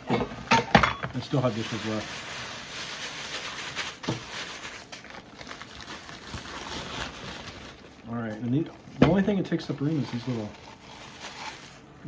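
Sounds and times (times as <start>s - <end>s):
plastic wrap crinkling: 1.1s - 12.0s.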